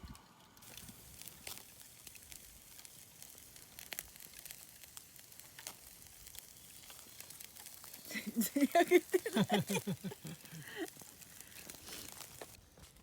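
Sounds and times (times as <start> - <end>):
campfire hissing and crackling: 0.0 - 13.0.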